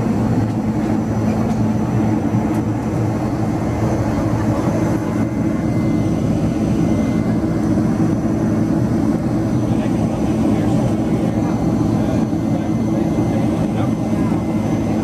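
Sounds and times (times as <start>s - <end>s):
jet engines roaring in cabin: 0.0s - 15.0s.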